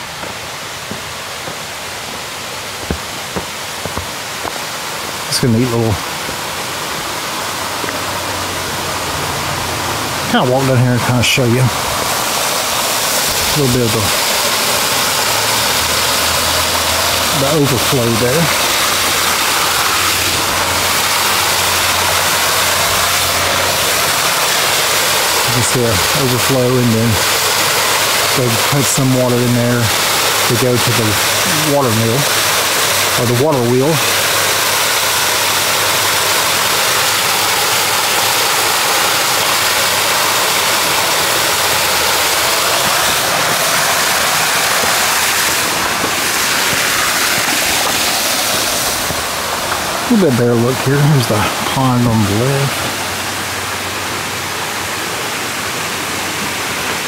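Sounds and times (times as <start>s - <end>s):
water pouring over spillway: 0.0s - 57.0s.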